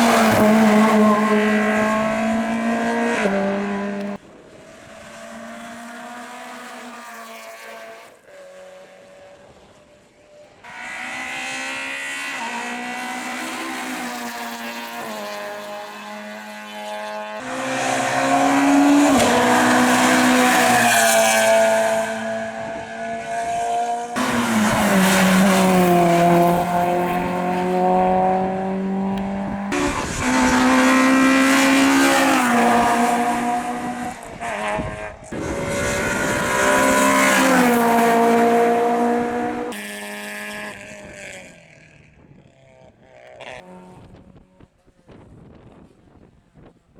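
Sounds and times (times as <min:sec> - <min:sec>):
rally car engines revving: 0:00.0 - 0:45.2.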